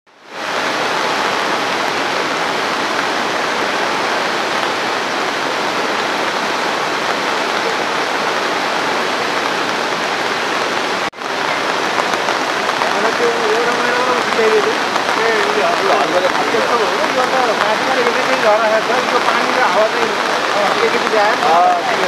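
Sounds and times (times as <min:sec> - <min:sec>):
river roaring: 0:00.1 - 0:22.0.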